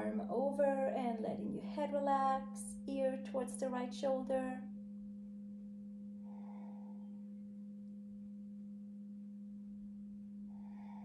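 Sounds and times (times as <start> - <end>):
crystal singing bowl tone: 0.0 - 11.0.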